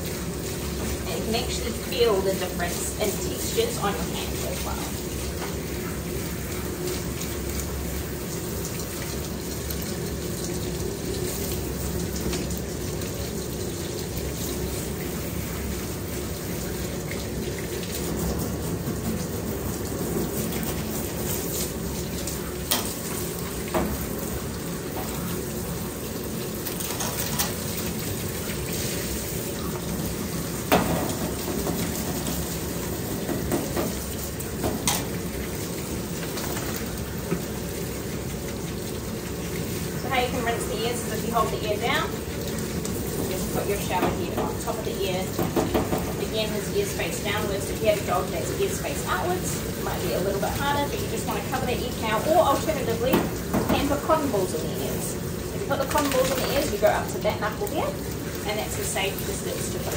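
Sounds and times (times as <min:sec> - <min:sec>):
shower water running over dog: 0:00.0 - 0:59.9.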